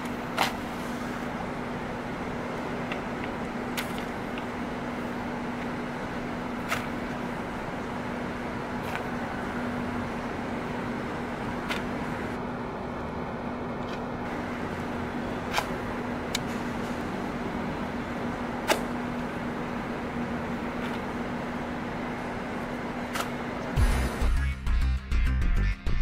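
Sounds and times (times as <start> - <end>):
steady background hum: 0.0 - 24.8.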